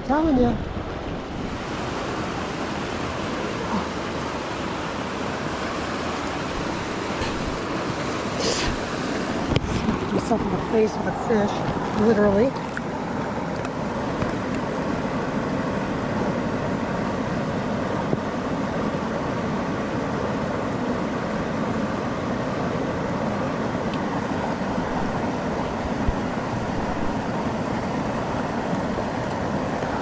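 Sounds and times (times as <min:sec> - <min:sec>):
mountain stream rushing: 0:00.0 - 0:30.0.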